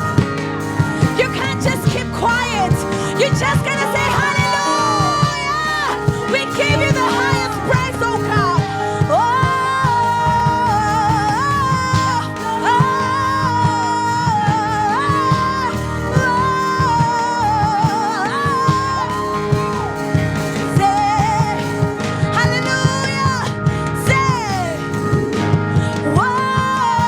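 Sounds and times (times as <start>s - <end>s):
person singing long sliding notes: 0.0s - 22.2s
band with drums and bass: 0.0s - 27.0s.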